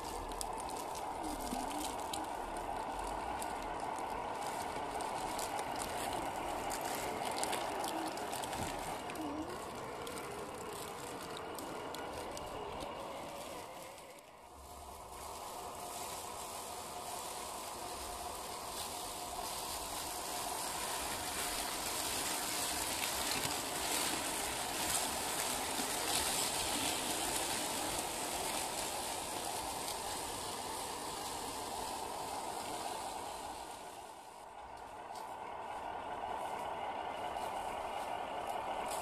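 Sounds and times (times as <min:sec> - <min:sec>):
rc car motor whining: 0:00.0 - 0:34.2
tyres crunching through leaves: 0:00.0 - 0:39.0.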